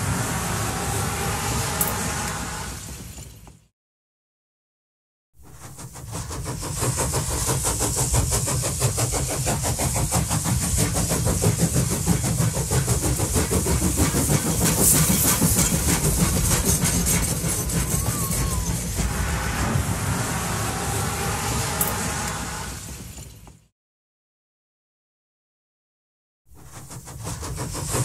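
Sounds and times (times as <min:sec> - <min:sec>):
train hiss and low rumble: 0:00.0 - 0:03.7, 0:05.4 - 0:23.7, 0:26.6 - 0:28.0
train wheels clattering: 0:00.2 - 0:03.7, 0:05.4 - 0:23.7, 0:26.6 - 0:28.0.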